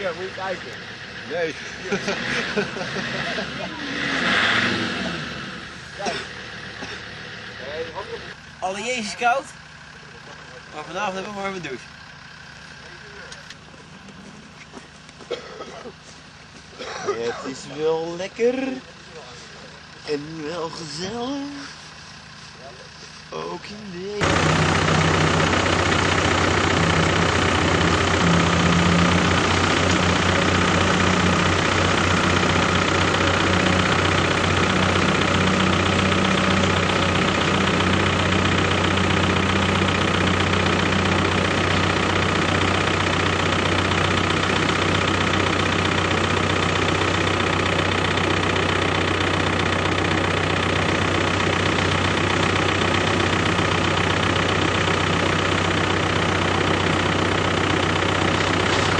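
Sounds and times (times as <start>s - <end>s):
vehicle engine running steadily: 0.0s - 58.9s.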